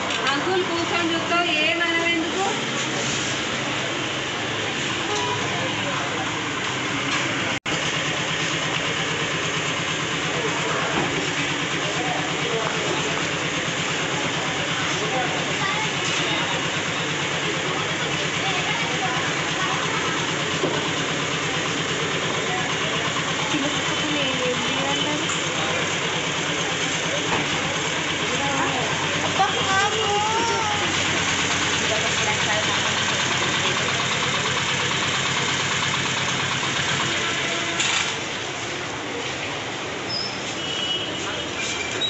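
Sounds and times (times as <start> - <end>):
engine idling: 0.0 - 40.0.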